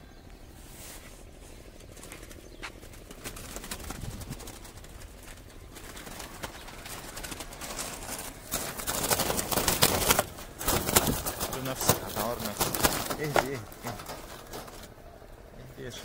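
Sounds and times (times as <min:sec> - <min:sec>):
pigeon wings flapping: 0:01.5 - 0:16.0
wire mesh rattling: 0:01.6 - 0:16.0.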